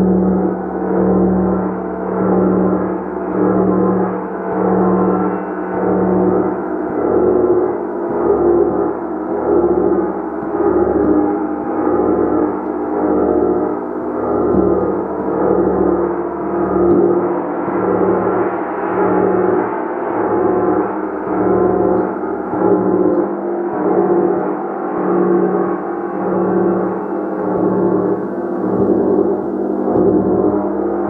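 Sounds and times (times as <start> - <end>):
gong ringing: 0.0 - 31.0.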